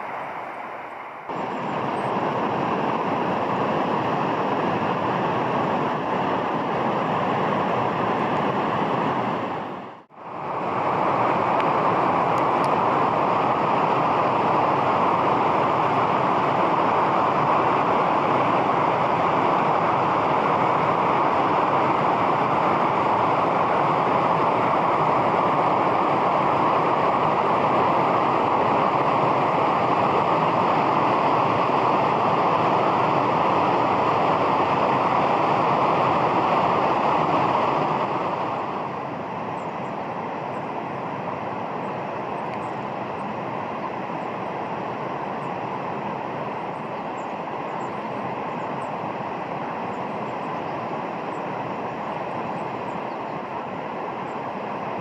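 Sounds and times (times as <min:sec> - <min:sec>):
flowing river water rushing: 0:00.0 - 0:55.0.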